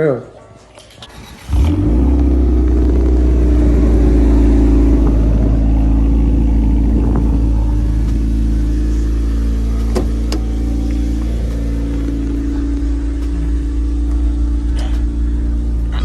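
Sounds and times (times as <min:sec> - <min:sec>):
car engine droning: 0:01.0 - 0:16.0.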